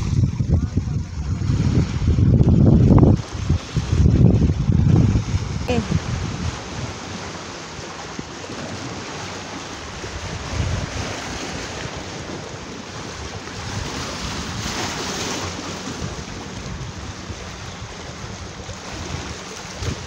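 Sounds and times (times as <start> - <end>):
sea waves washing on shore: 0.0 - 20.0
wind buffeting microphone: 0.0 - 20.0.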